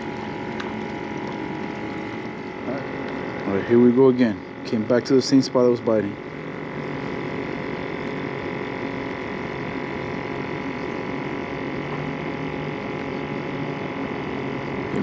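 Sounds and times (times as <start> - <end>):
electric hum: 0.0 - 15.0
thin high whine: 0.0 - 15.0.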